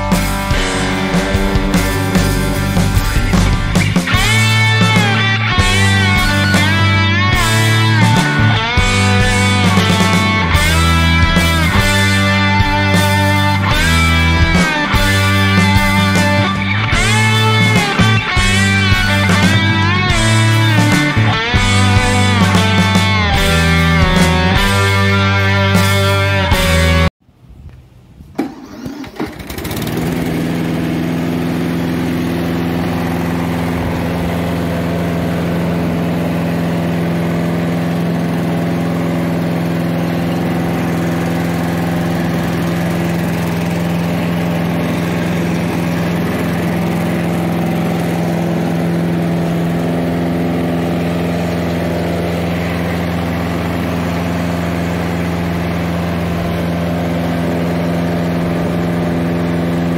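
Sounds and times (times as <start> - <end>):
lawn mower engine running: 0.0 - 27.1, 28.3 - 59.9.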